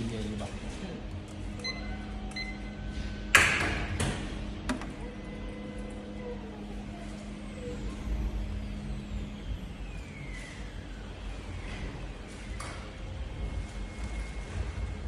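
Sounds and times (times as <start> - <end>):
laboratory equipment hum: 0.0 - 15.0.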